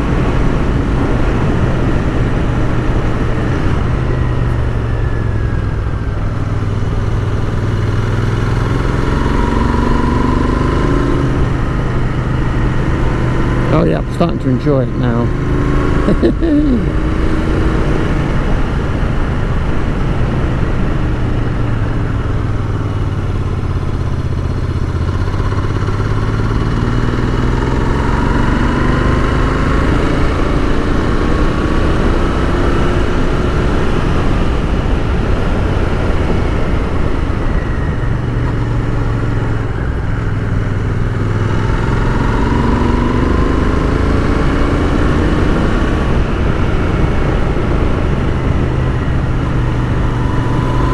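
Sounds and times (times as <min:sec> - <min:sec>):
motorcycle engine accelerating: 0:00.0 - 0:50.9.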